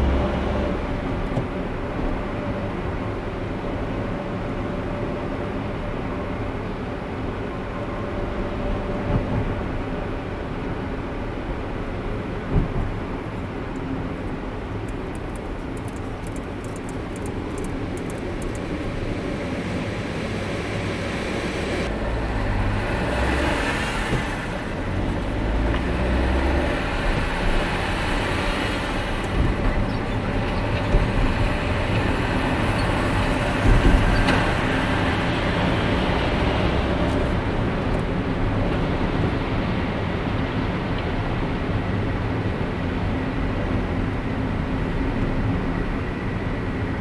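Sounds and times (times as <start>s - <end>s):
car driving on road: 0.0s - 47.0s.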